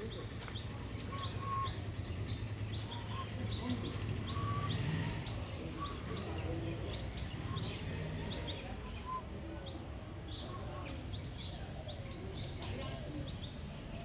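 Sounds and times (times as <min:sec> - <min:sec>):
low street noise rumble: 0:00.0 - 0:14.0
small birds chirping: 0:00.0 - 0:14.0.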